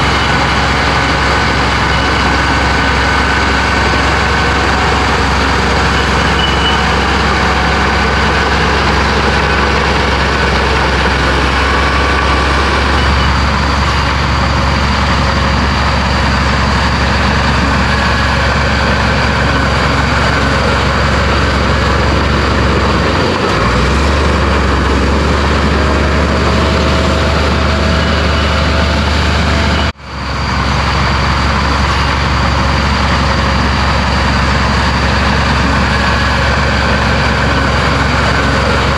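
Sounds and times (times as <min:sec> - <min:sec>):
heavy diesel machine running: 0:00.0 - 0:38.9.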